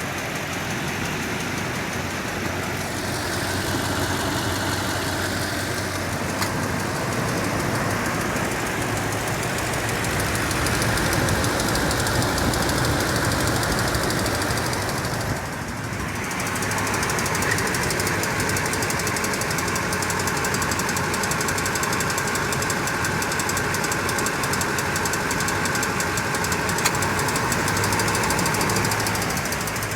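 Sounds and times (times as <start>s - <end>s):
engine running: 0.0s - 29.9s
rapid engine ticking: 0.0s - 29.9s.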